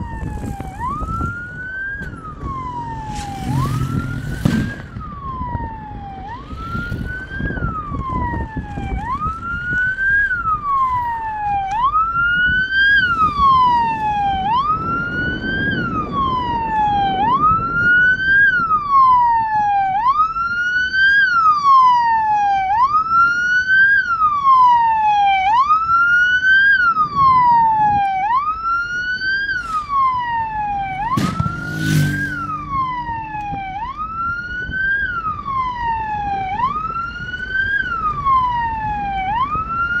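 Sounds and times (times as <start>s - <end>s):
vehicle siren wailing: 0.0s - 40.0s.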